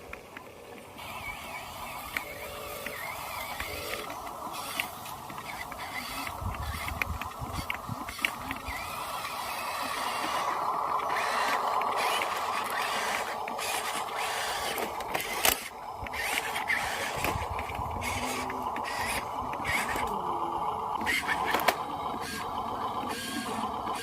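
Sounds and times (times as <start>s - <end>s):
electric motors whirring: 0.0s - 24.0s.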